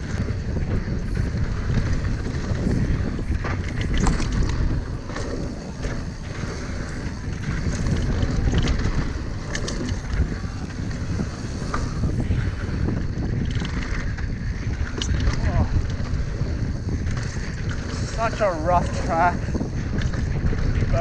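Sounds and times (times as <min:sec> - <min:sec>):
bike clicks and rattles: 0:00.0 - 0:21.0
tyres rumbling over dirt: 0:00.0 - 0:21.0
wind buffeting microphone: 0:00.0 - 0:21.0.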